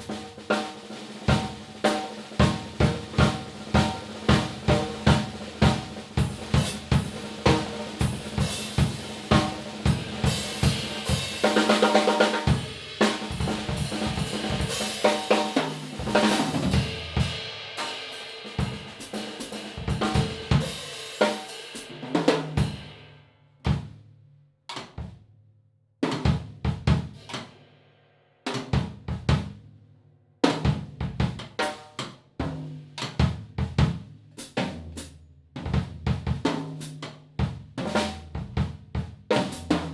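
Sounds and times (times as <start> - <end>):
drum kit playing: 0.0 - 23.0, 26.0 - 27.5, 30.4 - 39.9.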